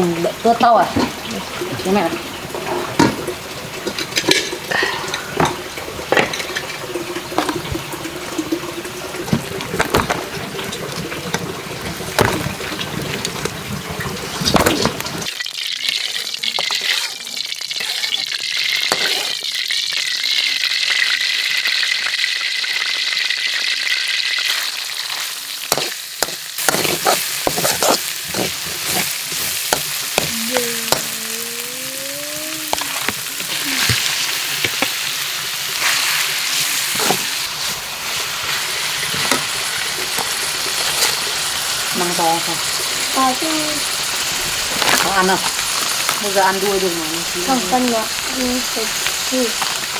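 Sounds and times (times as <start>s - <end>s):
food sizzling in a pan: 0.0s - 49.9s.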